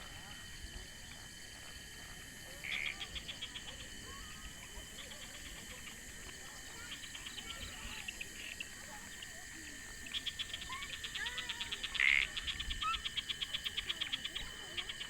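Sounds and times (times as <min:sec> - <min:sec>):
fast pulsing insect call: 0:00.0 - 0:15.0
insects trilling: 0:00.0 - 0:15.0.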